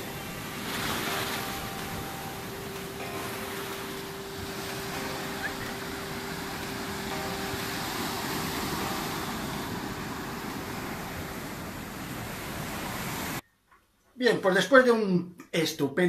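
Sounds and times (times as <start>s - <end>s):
surf washing on a beach: 0.0s - 13.4s.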